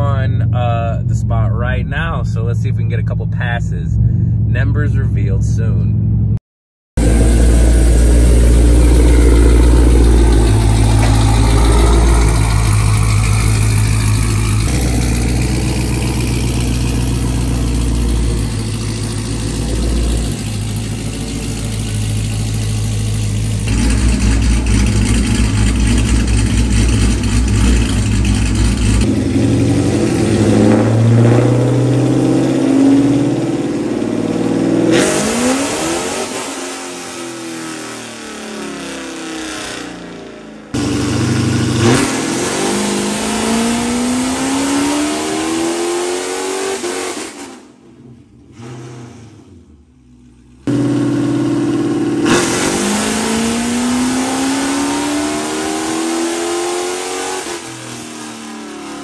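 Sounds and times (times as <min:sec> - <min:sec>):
vee eight engine idling and revving: 0:00.0 - 0:06.4, 0:07.0 - 0:59.0
engine run-up on dyno: 0:07.0 - 0:59.0.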